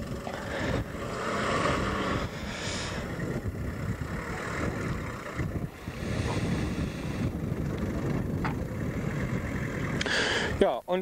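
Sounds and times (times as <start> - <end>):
engine rumbling under load: 0.0 - 10.9.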